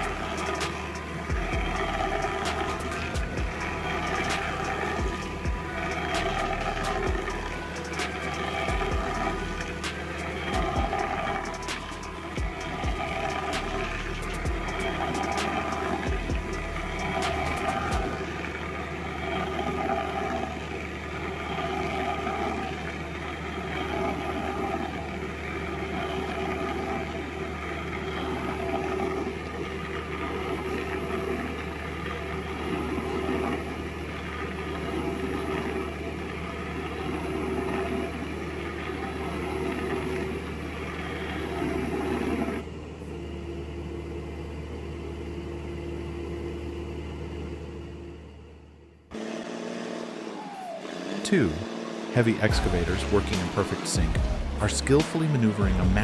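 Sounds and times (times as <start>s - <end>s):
heavy diesel machinery running: 0.0s - 56.0s
quieter engine with steady tone: 0.0s - 56.0s.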